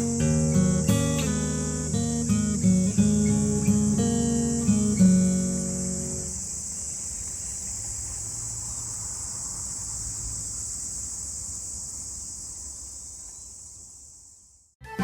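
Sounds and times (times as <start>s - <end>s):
crickets chirping: 0.0s - 14.8s.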